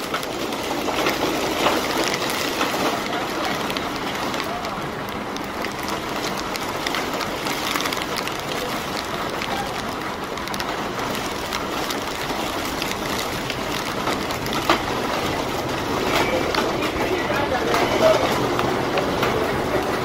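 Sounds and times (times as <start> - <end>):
city street traffic rumble: 0.0 - 20.0
rain on an umbrella: 0.0 - 20.0.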